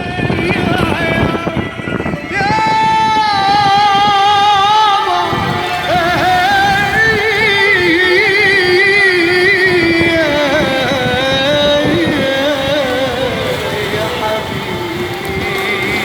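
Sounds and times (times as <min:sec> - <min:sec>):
wavering instrumental melody: 0:00.0 - 0:16.0.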